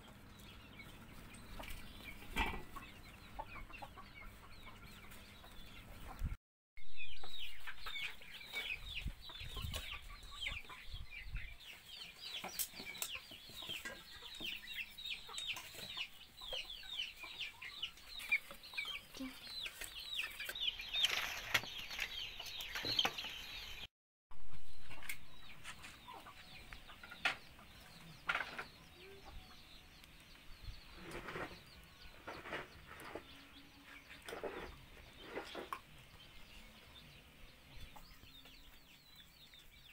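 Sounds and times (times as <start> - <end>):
chicks peeping: 0.0 - 23.9, 24.6 - 39.9
hen clucking: 0.1 - 6.3, 7.0 - 23.6, 24.8 - 39.7.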